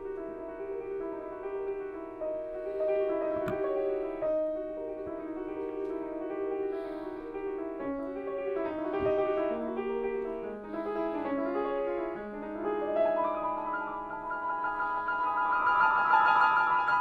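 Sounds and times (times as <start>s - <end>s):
solo piano playing slow chords: 0.0s - 17.0s.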